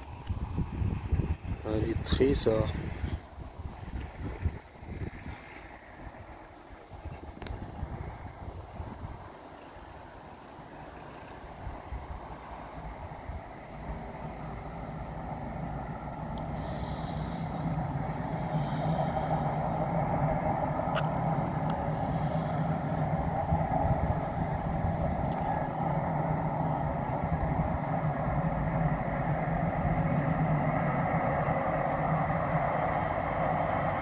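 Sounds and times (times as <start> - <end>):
distant passenger train rumble: 0.0 - 34.0.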